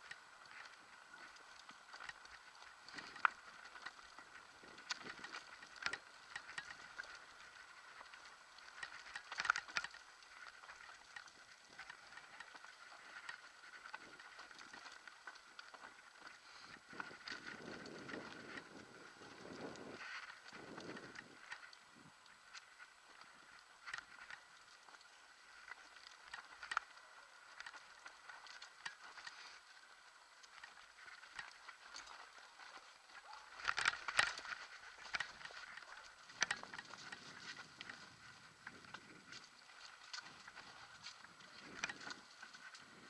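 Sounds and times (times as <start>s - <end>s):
bike chain and frame clatter: 0.0s - 43.0s.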